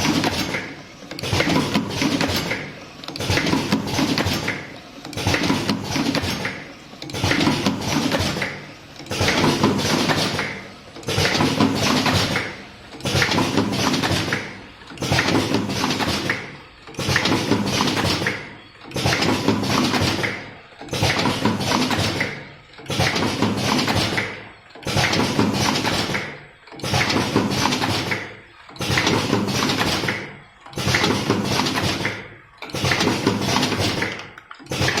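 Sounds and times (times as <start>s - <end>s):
cartoning machine clattering: 0.0s - 35.0s.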